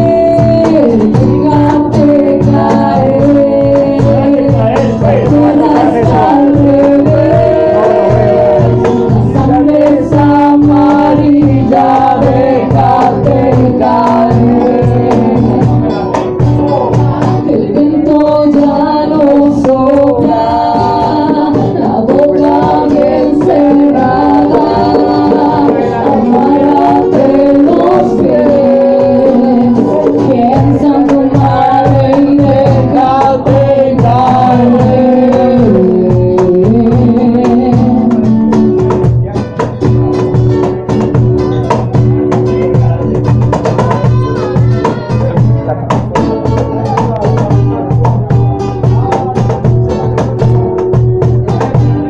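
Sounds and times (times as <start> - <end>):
person singing: 0.0 - 39.9, 41.7 - 52.0
strummed acoustic guitars: 0.0 - 52.0.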